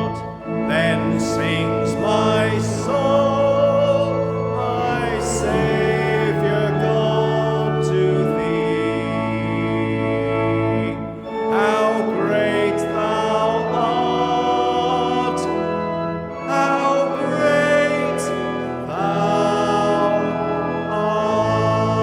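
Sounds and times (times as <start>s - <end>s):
sustained instrumental accompaniment: 0.0s - 22.0s
voices singing a hymn: 0.0s - 22.0s.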